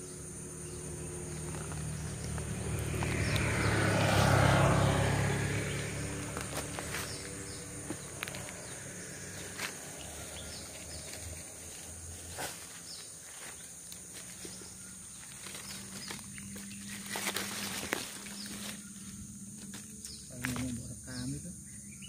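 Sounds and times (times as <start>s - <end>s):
high-pitched insect drone: 0.0s - 22.0s
footsteps on dry leaves: 1.0s - 20.8s.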